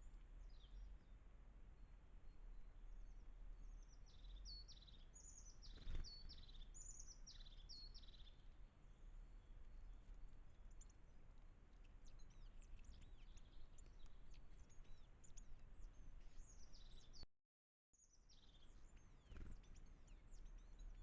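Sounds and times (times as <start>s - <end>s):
low background hiss: 0.0s - 17.2s, 18.0s - 21.0s
songbirds chirping: 0.0s - 17.3s, 18.0s - 21.0s.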